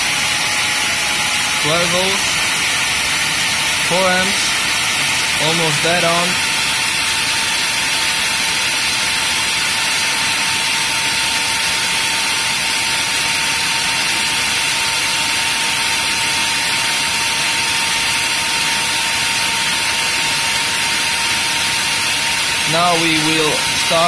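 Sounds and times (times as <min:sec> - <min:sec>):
fan rushing air: 0:00.0 - 0:24.0
fan whine: 0:00.0 - 0:24.0.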